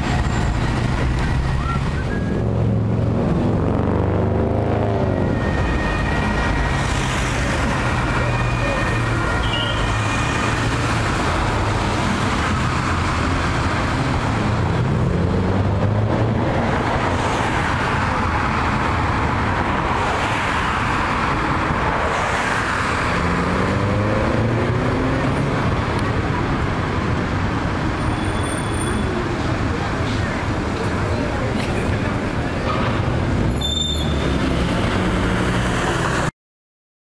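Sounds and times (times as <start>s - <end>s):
road traffic rumble: 0.0s - 36.3s.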